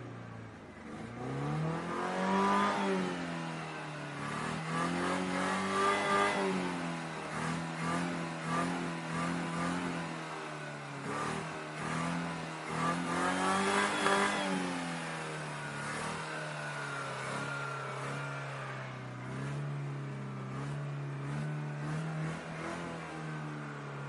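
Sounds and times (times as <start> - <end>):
car engine revving: 0.8 - 24.0.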